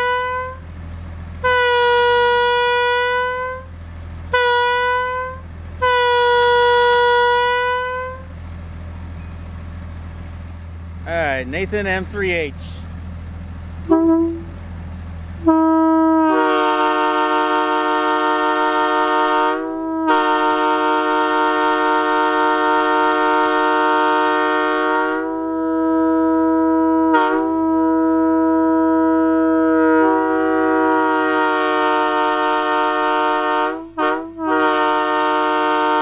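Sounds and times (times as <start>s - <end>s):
locomotive air horn blasts: 0.0s - 0.7s, 1.4s - 8.4s, 13.9s - 14.6s, 15.4s - 36.0s.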